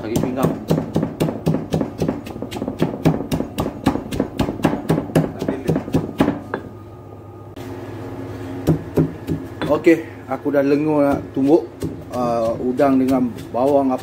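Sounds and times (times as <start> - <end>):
stone pestle pounding in mortar: 0.0 - 6.7, 8.6 - 9.9, 10.7 - 14.0.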